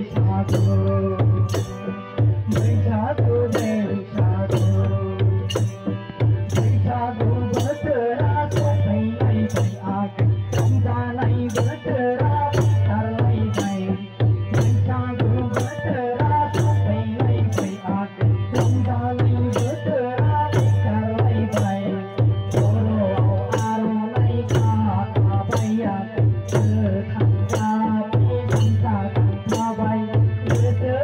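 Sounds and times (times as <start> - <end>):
harmonium melody: 0.0 - 31.0.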